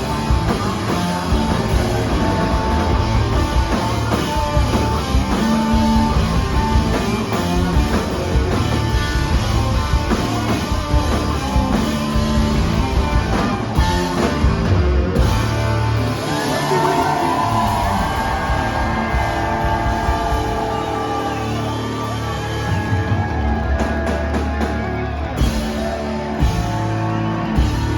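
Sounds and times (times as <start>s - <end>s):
bass: 0.0s - 27.9s
drum kit: 0.0s - 27.9s
guitars holding long notes: 0.0s - 27.9s.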